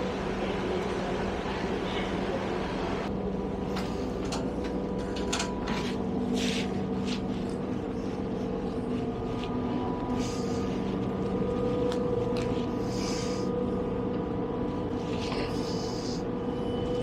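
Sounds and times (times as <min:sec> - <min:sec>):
train engine hum: 0:00.0 - 0:17.0.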